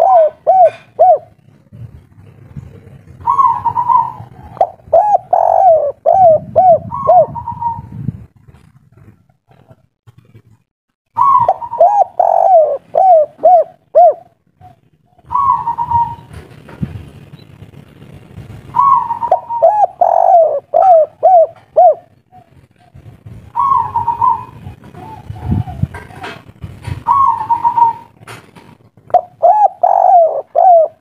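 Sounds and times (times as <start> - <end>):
dove cooing: 0.0 - 8.0, 11.2 - 16.4, 18.7 - 28.5, 29.1 - 31.0.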